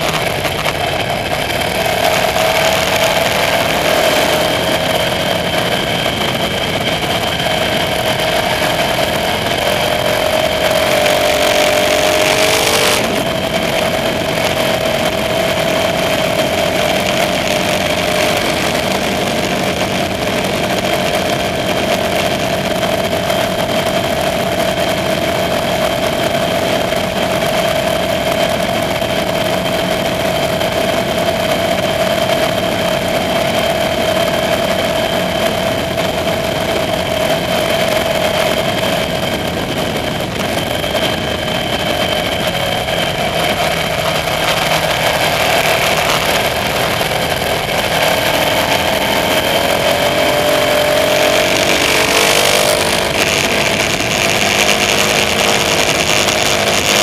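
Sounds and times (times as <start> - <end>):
motorcycle engine cruising: 0.0 - 57.0
wind rush and road noise: 0.0 - 57.0.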